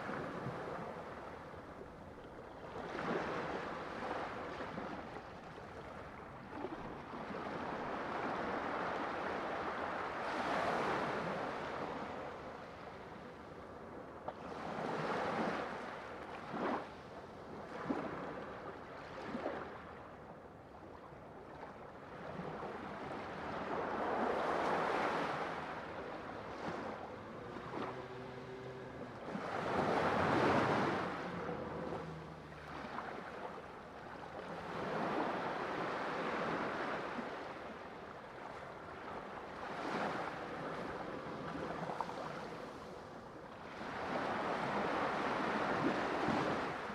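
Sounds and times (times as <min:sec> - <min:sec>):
sea waves breaking: 0:00.0 - 0:12.8, 0:21.6 - 0:46.9.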